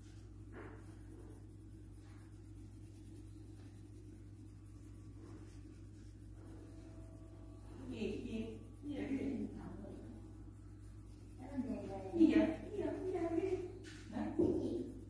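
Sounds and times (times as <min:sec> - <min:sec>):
crayon scratching on paper: 0:00.0 - 0:15.0
steady low hum: 0:00.0 - 0:15.0.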